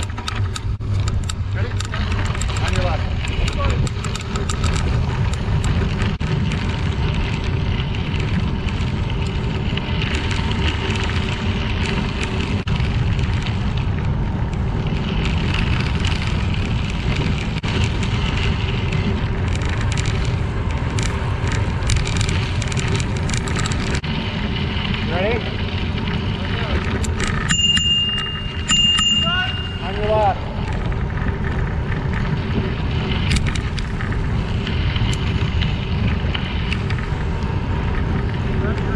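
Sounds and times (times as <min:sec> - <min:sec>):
bicycle tyres rolling on gravel: 0:00.0 - 0:38.9.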